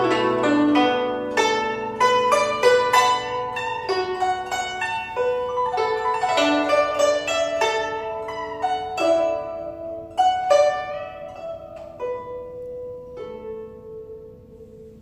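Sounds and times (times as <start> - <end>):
zither plucked notes: 0.0 - 15.0.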